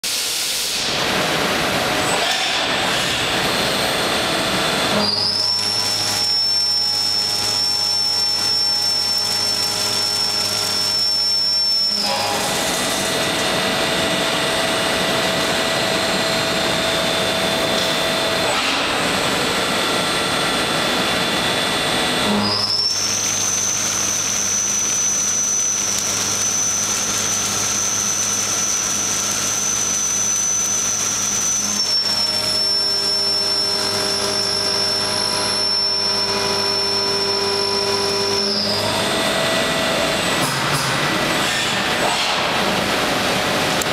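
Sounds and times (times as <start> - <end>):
milling machine cutting steel: 0.1 - 43.9
high whine over low hum: 0.4 - 43.9.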